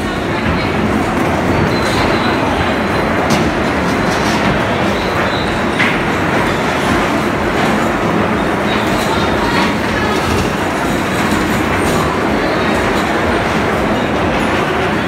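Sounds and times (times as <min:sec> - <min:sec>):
bumper cars rumbling: 0:00.0 - 0:15.0.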